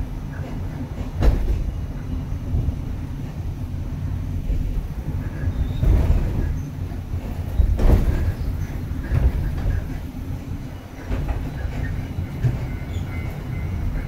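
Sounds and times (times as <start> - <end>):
cable car clunks: 0.0 - 3.4, 4.4 - 14.0
cable car rumbling on rails: 0.0 - 14.0.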